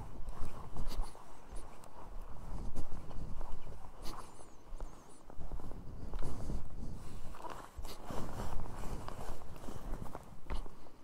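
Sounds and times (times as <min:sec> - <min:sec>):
footsteps on rock and forest floor: 0:00.0 - 0:11.0.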